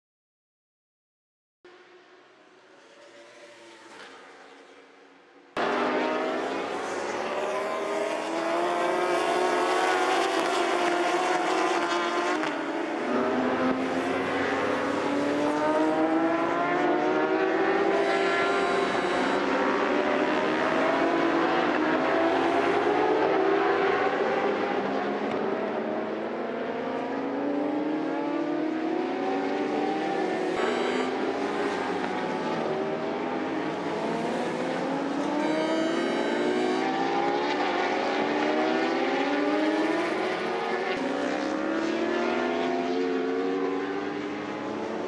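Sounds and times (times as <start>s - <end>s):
motorcycle engines accelerating: 5.6s - 45.0s.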